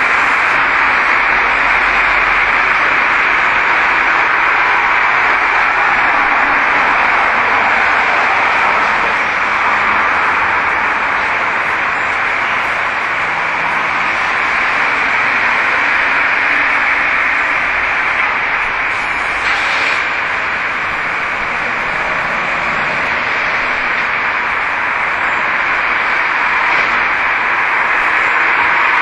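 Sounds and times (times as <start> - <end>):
loud steady hissing: 0.0 - 29.0.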